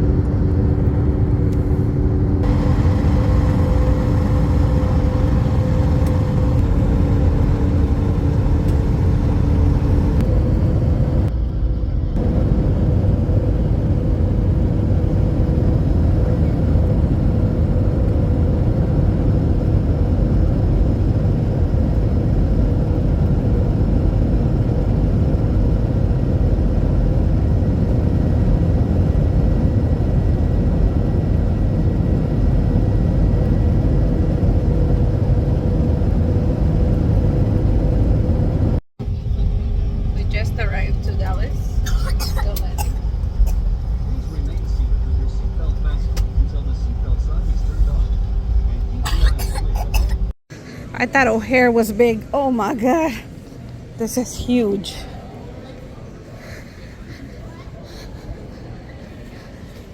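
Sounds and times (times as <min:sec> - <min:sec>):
jet engines and airflow rumble: 0:00.0 - 0:59.9
steady hum tones: 0:00.0 - 0:59.9.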